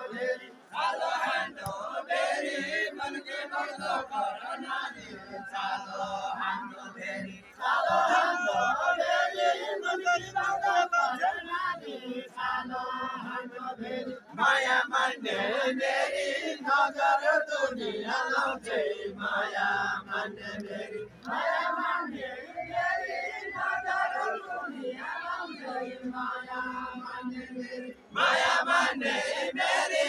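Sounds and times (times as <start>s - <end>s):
crowd voices: 0.0s - 30.0s
men singing in chorus: 0.0s - 30.0s.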